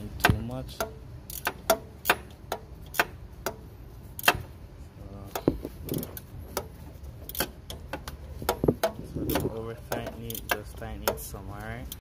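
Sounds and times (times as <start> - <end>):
ratchet wrench clicking: 0.2 - 4.6, 5.3 - 12.0.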